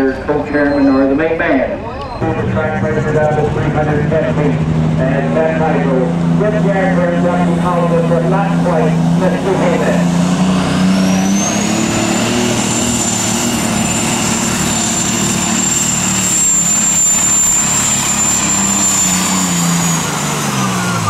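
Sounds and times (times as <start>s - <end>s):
high whine: 0.0s - 20.0s
tractor engine at full throttle: 0.0s - 21.0s.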